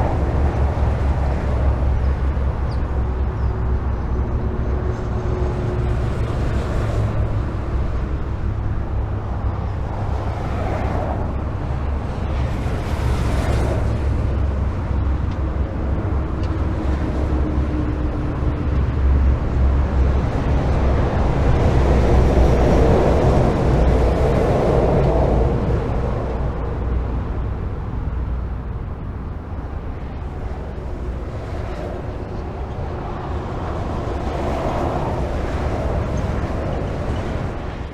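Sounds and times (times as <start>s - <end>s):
highway traffic rumble: 0.0s - 37.9s
vehicles passing: 0.0s - 37.9s.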